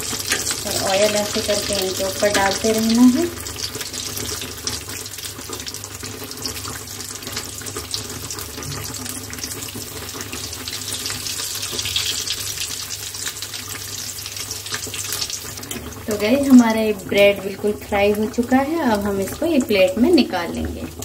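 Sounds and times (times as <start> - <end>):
pakoras deep-frying in hot oil: 0.0 - 21.0.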